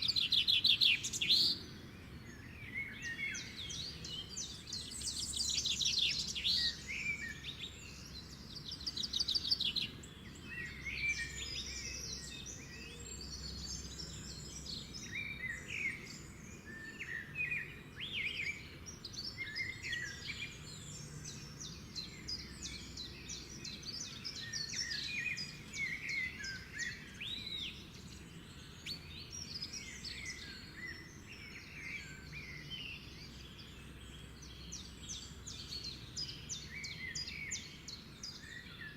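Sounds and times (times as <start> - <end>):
birds chirping and singing: 0.0 - 38.9
faint low background noise: 0.0 - 38.9.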